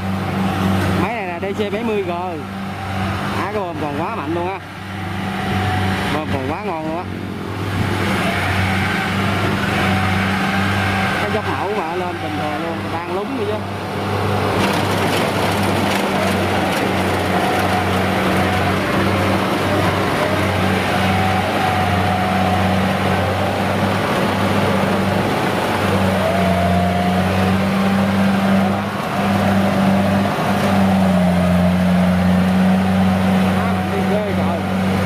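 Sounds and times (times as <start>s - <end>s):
combine harvester engine hum: 0.0s - 35.0s.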